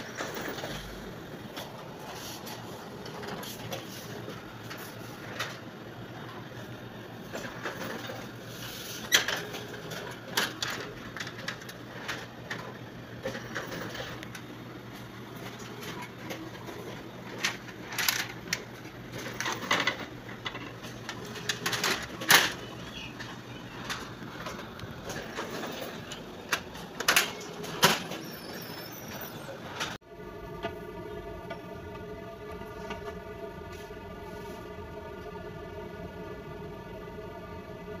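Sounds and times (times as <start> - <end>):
copier low hum: 0.0 - 38.0.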